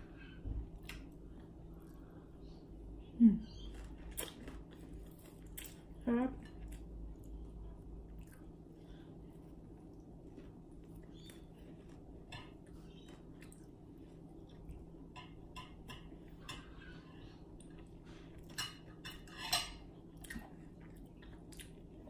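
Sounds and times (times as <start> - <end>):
steady low hum: 0.0 - 22.0
soft chewing and mouth clicks: 0.1 - 2.8, 3.4 - 22.0.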